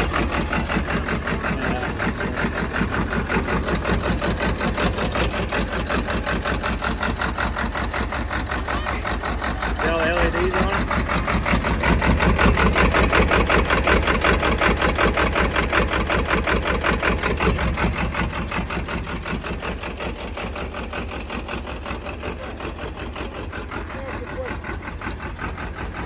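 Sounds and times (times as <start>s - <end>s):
tractor engine idling: 0.0s - 26.0s.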